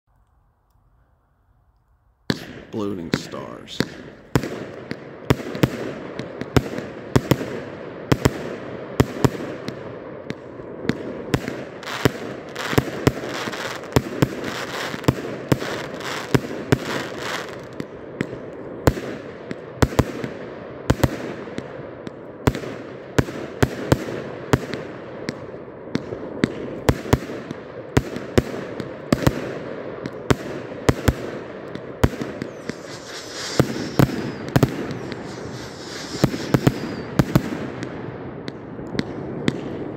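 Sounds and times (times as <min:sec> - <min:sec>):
fireworks launching and bursting: 0:02.2 - 0:39.9
fireworks hissing and crackling: 0:02.3 - 0:21.8, 0:22.5 - 0:39.9.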